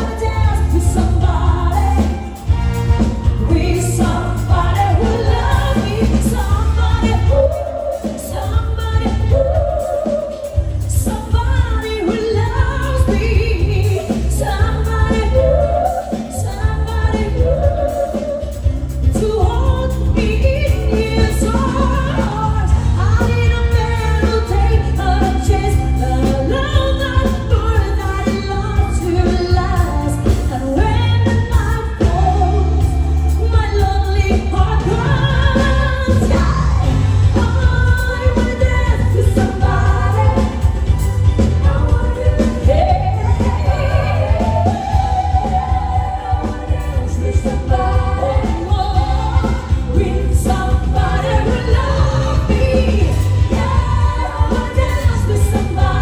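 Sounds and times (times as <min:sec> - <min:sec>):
live band playing: 0:00.0 - 0:56.0
woman singing pop song: 0:00.0 - 0:56.0.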